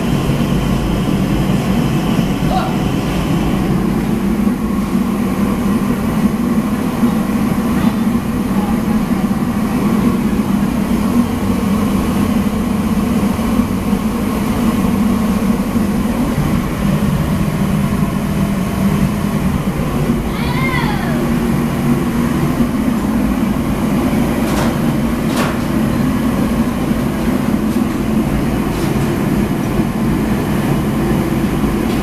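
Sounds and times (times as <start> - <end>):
kitchen equipment drone: 0.0 - 32.0.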